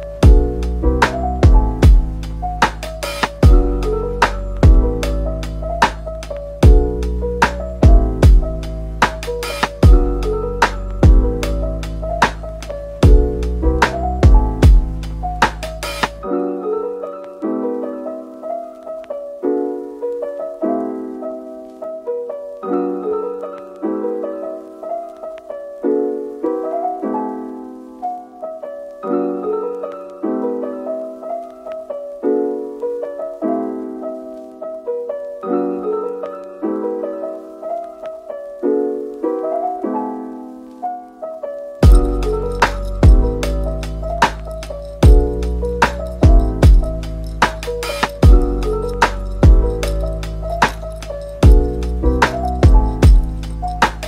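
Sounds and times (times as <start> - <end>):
calm piano music: 0.0 - 54.0.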